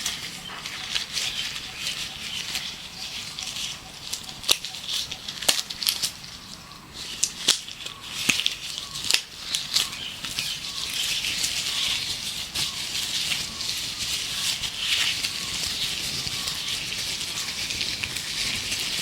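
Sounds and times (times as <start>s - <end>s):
faint birdsong: 0.0s - 19.0s
gloves rubbing and rustling: 0.0s - 19.0s.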